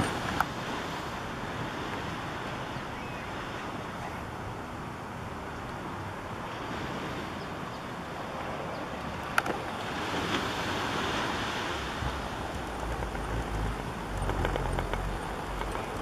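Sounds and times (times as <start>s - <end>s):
ocean surf on beach: 0.0s - 16.0s.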